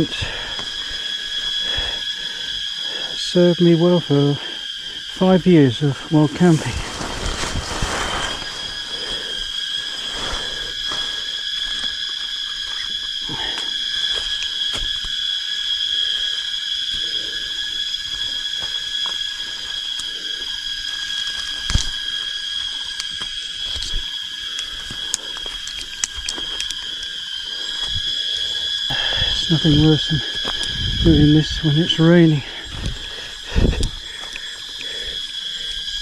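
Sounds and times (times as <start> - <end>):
high insect drone: 0.0 - 36.0.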